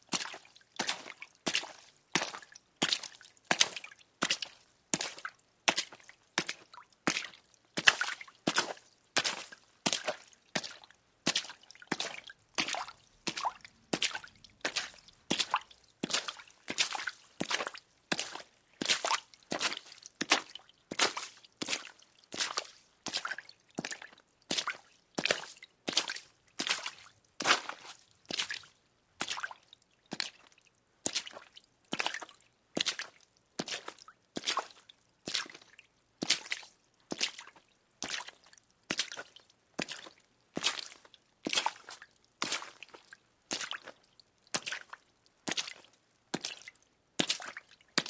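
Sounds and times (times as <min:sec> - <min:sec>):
footsteps splashing through puddles: 0:00.1 - 0:30.5, 0:31.1 - 0:48.0.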